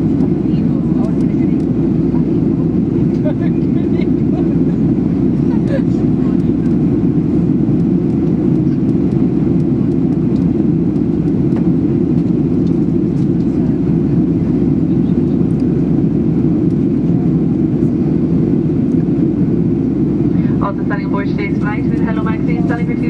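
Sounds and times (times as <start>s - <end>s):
airplane cabin jet engine rumble: 0.0s - 23.0s.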